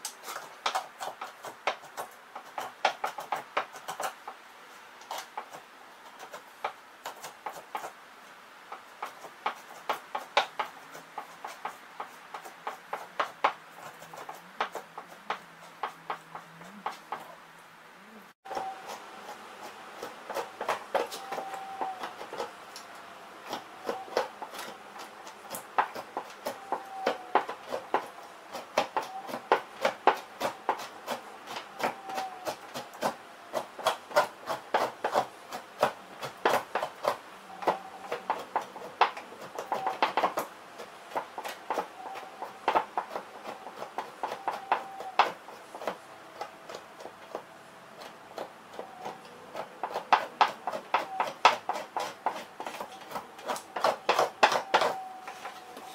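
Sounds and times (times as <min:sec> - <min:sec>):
knife scraping hide: 0:00.0 - 0:08.0, 0:08.7 - 0:17.3, 0:18.5 - 0:55.9.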